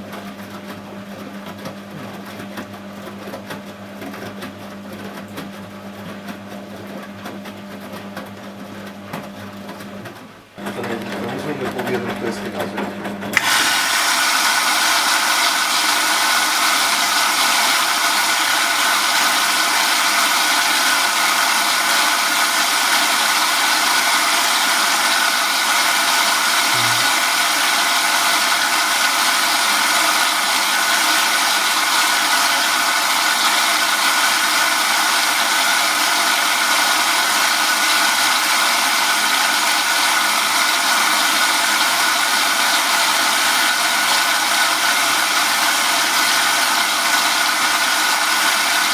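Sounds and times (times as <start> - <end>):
washing machine filling with water: 0.0 - 48.9.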